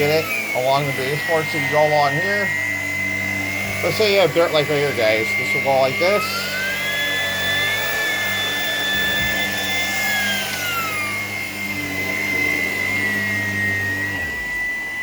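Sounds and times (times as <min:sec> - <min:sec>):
cordless vacuum motor whine: 0:00.0 - 0:15.0.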